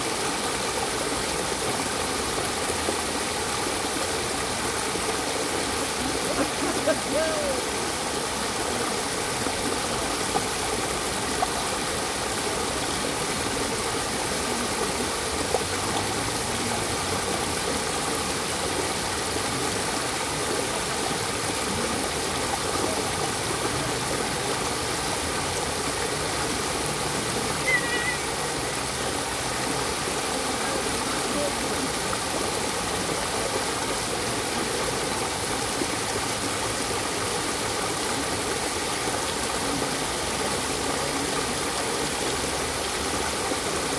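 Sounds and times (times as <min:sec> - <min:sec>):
water rushing over rocks: 0:00.0 - 0:43.9.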